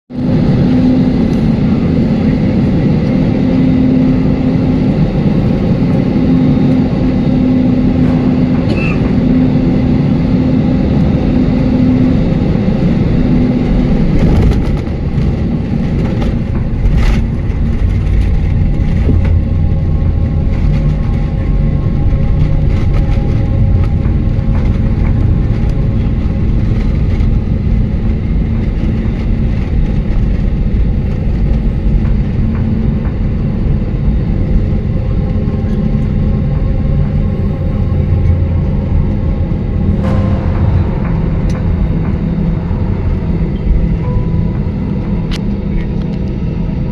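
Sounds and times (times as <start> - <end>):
airliner engine and airflow noise: 0.1 - 46.9
heavy low rumble: 0.1 - 46.9.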